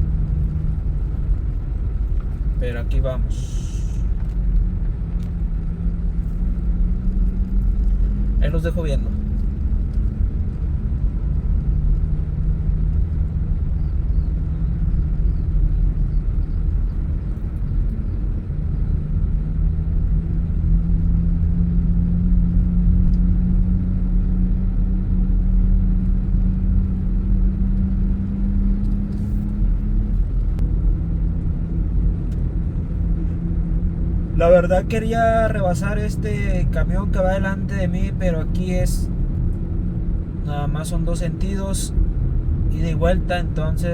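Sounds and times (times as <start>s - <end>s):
car engine hum: 0.0s - 43.9s
road noise: 0.0s - 43.9s.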